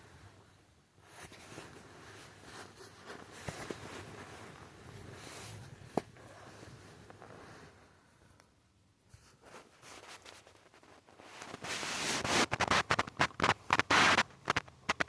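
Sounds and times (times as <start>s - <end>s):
faint rustling handling noise: 0.0s - 15.0s.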